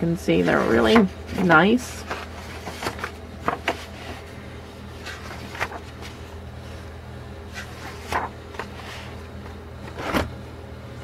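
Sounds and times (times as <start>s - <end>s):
low steady hum: 0.0s - 11.0s
book pages rustling: 0.3s - 6.9s, 7.5s - 10.3s.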